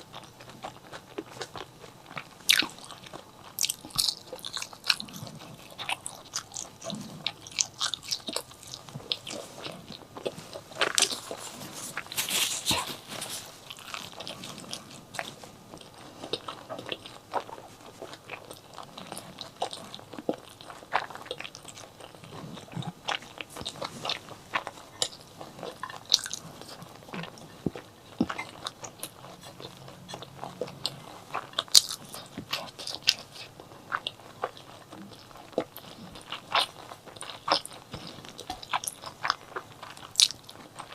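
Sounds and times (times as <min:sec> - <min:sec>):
crunchy bites: 0:00.0 - 0:40.9
wet chewing clicks: 0:00.0 - 0:40.9.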